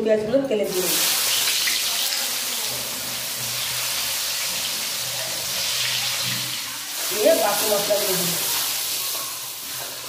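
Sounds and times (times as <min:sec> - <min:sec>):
onions sizzling in hot oil: 0:00.6 - 0:10.0.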